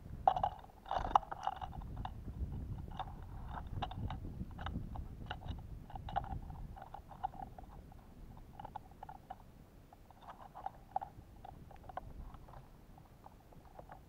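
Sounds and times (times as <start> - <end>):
birds pecking seeds in feeder: 0.0 - 14.0.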